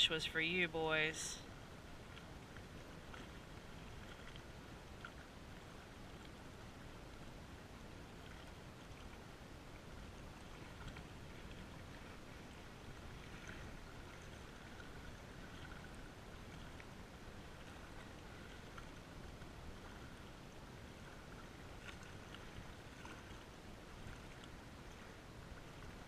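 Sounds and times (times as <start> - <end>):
small waves lapping on rocks: 0.0 - 26.0.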